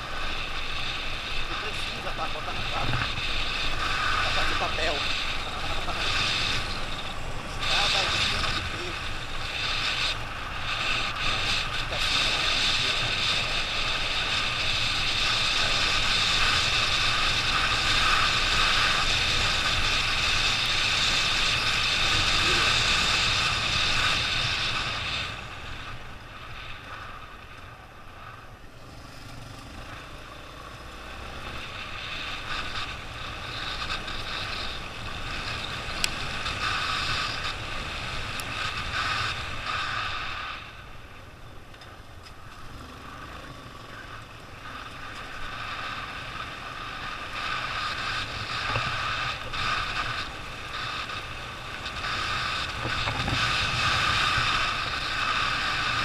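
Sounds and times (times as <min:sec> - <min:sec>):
motorcycle engine rumble: 0:00.0 - 0:56.0
wind and road noise: 0:00.0 - 0:56.0.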